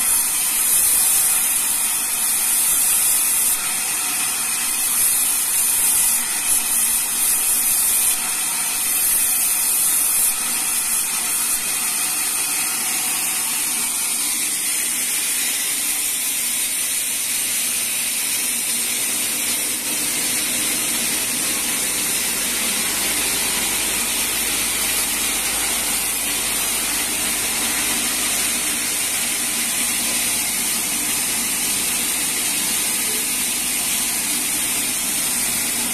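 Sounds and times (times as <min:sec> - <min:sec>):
band saw sawing wood: 0:00.0 - 0:35.9.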